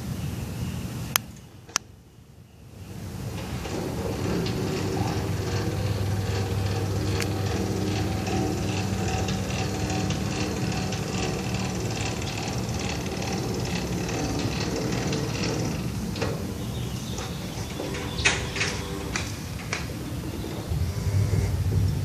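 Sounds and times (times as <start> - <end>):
gate motor hum: 2.6 - 22.0.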